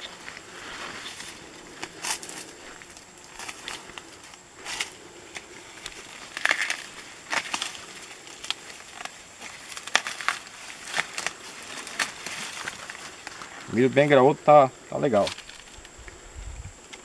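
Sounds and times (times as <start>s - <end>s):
corn ears cracking off stalks: 0.0s - 14.2s, 14.9s - 17.0s
corn plants rustling: 0.0s - 17.0s.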